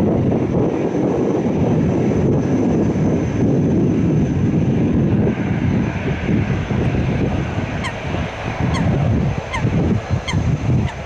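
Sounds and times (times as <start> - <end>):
airliner engine rumble: 0.0 - 11.0.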